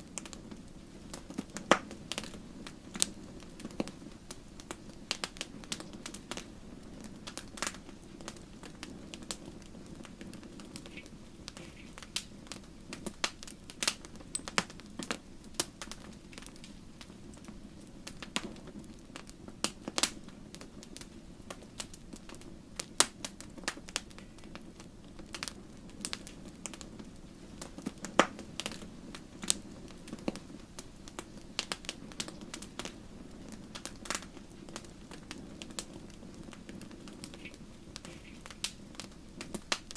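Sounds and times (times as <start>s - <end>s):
logs crackling and popping: 0.0s - 39.9s
low rush of flames: 0.0s - 39.9s.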